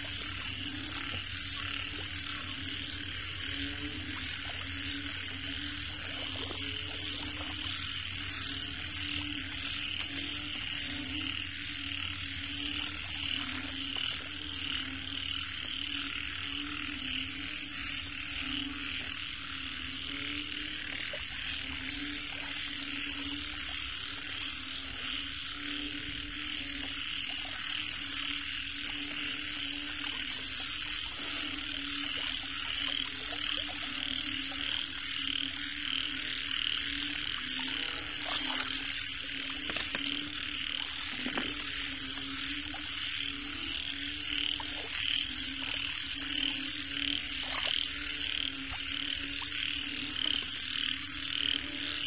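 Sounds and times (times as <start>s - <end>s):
frogs croaking: 0.0s - 52.0s.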